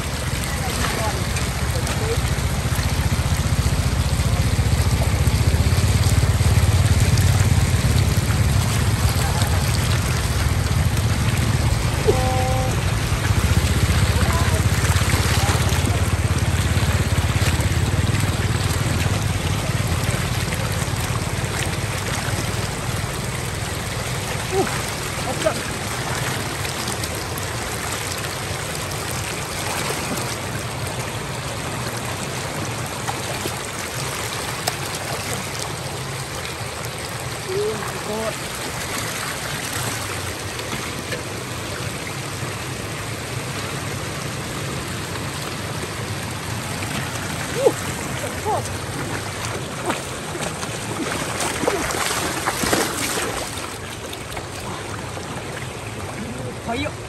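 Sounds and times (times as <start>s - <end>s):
floodwater flowing over road: 0.0s - 57.0s.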